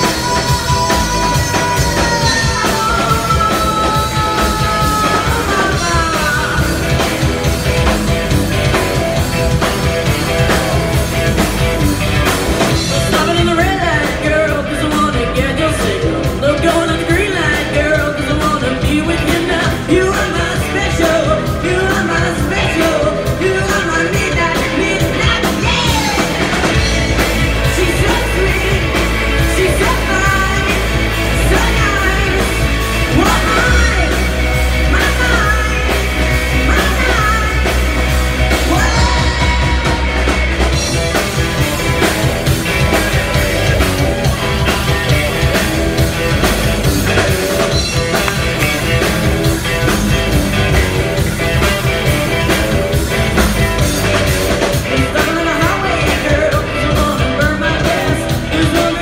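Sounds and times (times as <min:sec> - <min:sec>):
singer singing: 0:00.0 - 0:08.8, 0:12.1 - 0:59.0
bass guitar: 0:00.0 - 0:59.0
distorted electric guitars: 0:00.0 - 0:59.0
drum kit: 0:00.0 - 0:59.0.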